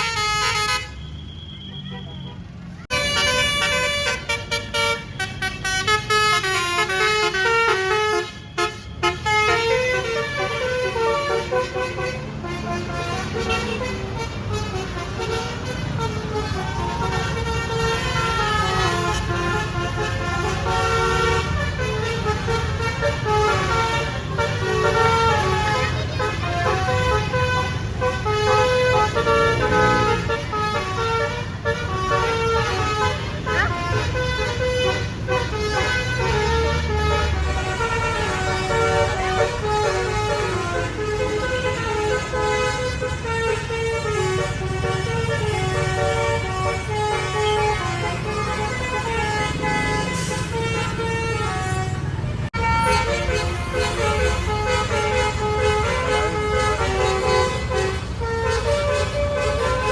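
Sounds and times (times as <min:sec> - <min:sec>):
musical bus horn playing a tune: 0:00.0 - 0:02.1, 0:02.9 - 0:59.9.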